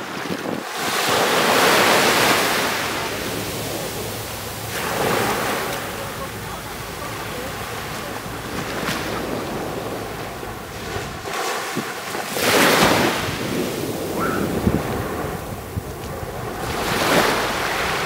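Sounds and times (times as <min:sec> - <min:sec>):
small waves washing onto beach: 0:00.0 - 0:18.0
wind on microphone: 0:00.0 - 0:18.0.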